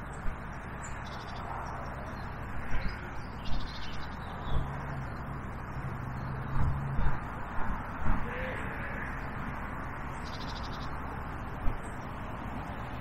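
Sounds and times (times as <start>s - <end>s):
birds calling faintly: 0.0s - 9.4s, 10.0s - 12.2s
wind: 0.0s - 13.0s.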